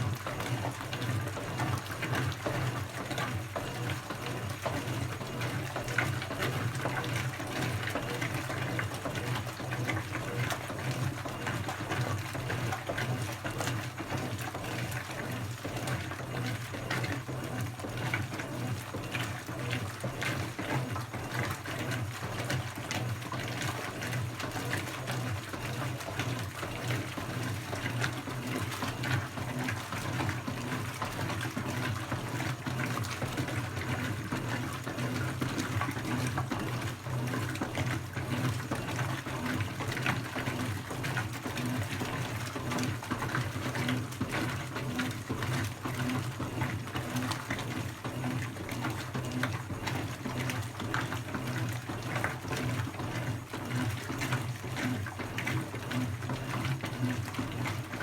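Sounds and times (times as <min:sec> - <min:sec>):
washing machine motor hum: 0:00.0 - 0:58.0
water sloshing in machine: 0:00.0 - 0:58.0.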